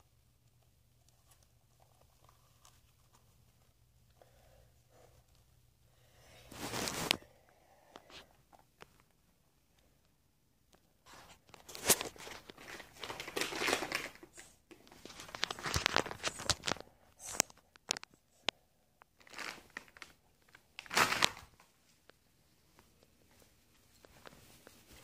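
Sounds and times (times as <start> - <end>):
mask crinkling and rustling: 0.3 - 4.2, 6.4 - 9.9, 10.7 - 25.0.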